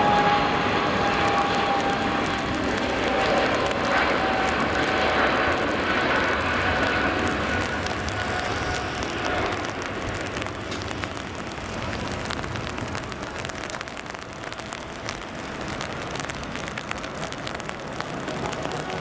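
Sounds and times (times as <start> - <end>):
heavy rain: 0.0 - 19.0
jet engines at takeoff: 0.0 - 19.0
raindrops ticking close by: 0.8 - 19.0.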